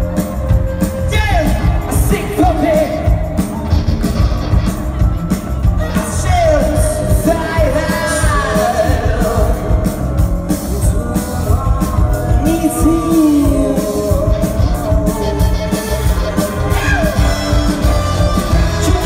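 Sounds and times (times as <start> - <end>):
man singing lead: 0.0 - 3.5, 5.6 - 19.0
live rock band playing: 0.0 - 19.0.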